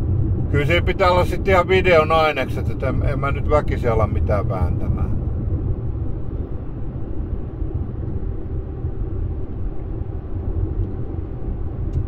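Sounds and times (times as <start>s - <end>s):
car cabin road and engine drone: 0.0s - 12.0s.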